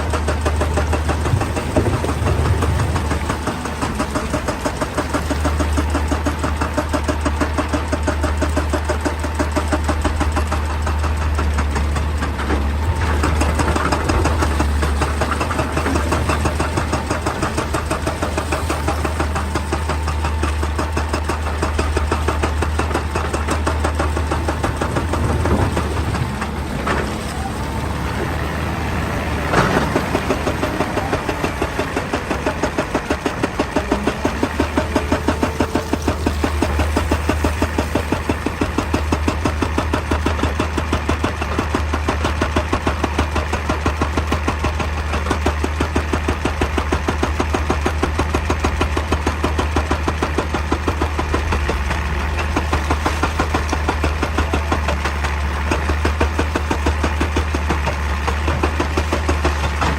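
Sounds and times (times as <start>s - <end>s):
diesel engine pulsing: 0.0s - 59.9s.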